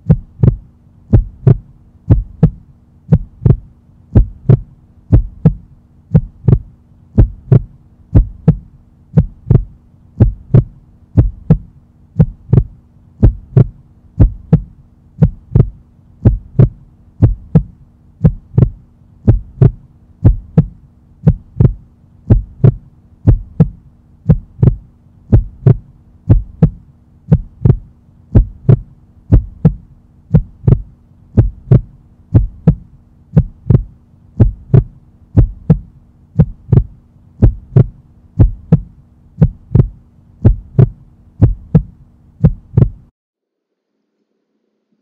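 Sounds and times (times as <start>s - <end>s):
heartbeat thumps: 0.0s - 43.1s
constant low hum: 0.0s - 45.0s.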